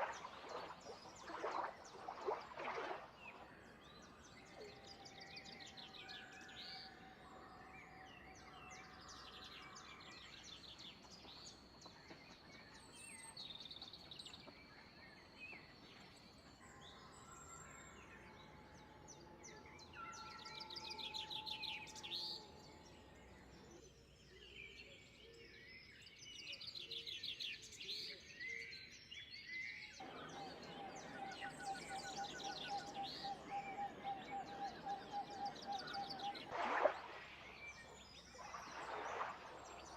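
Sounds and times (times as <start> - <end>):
wild birds singing and calling: 0.0 - 39.9.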